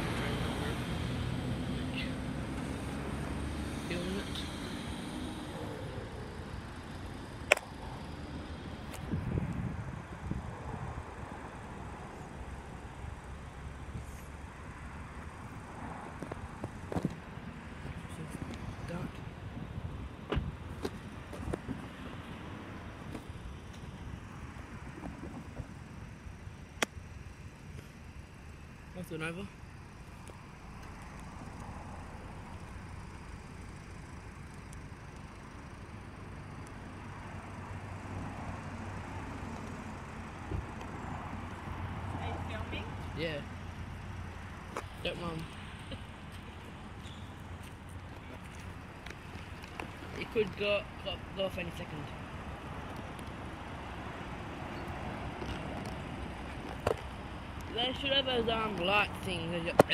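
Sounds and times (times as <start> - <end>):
car engine idling: 0.0 - 21.8, 22.5 - 54.4.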